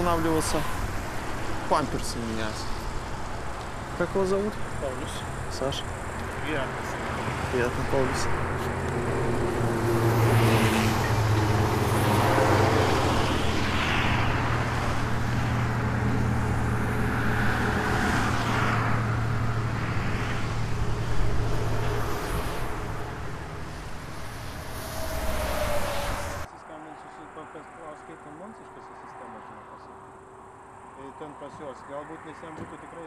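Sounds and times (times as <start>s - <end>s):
truck engine humming: 0.0s - 26.5s
vehicles passing: 0.0s - 33.0s.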